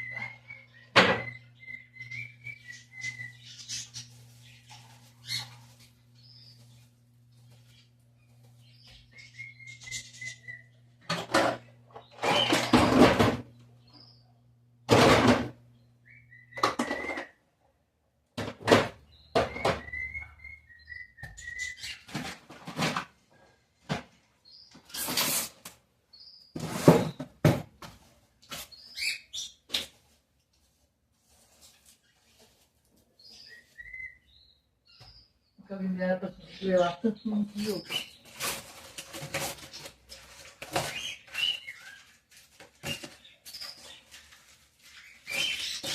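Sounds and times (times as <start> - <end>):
small birds chirping: 0.0 - 11.0, 11.6 - 14.8, 15.7 - 17.3, 19.0 - 22.2, 26.0 - 27.4, 28.4 - 30.6, 31.6 - 45.9.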